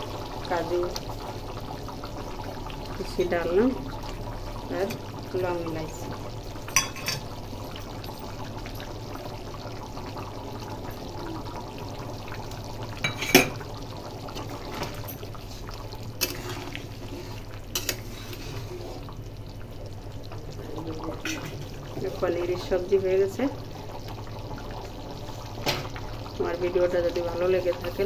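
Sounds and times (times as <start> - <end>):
gravy bubbling at a simmer: 0.0 - 28.0.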